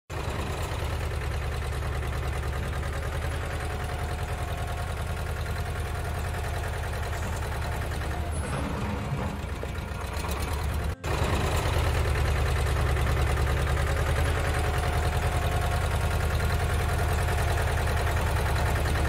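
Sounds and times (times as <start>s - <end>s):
engine idling: 0.1s - 19.0s.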